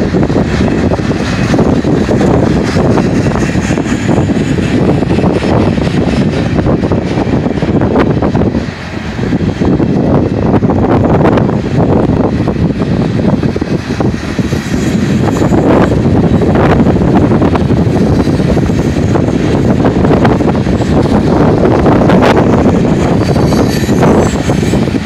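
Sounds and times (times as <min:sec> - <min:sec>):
train clicks and clanks: 0:00.0 - 0:25.0
train wheels rumbling on rails: 0:00.0 - 0:25.0.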